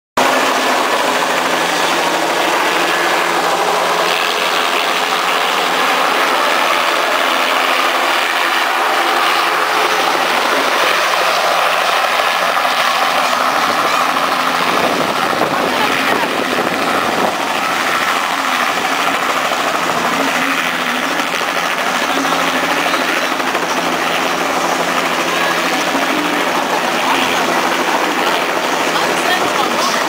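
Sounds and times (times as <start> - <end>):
engine droning: 0.2 - 30.0.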